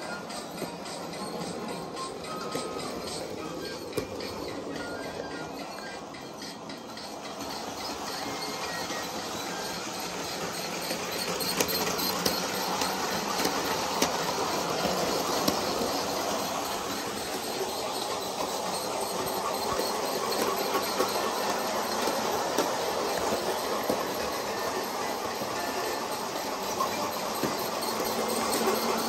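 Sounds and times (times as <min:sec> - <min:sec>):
model train wheels and motor rattling: 0:00.0 - 0:29.0.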